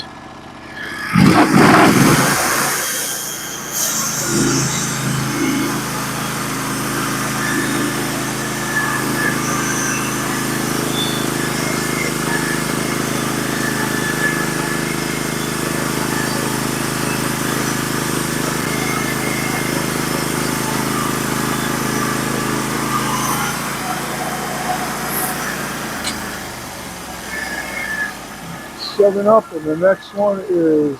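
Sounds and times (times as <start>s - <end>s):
sawmill engine running: 0.0s - 30.9s.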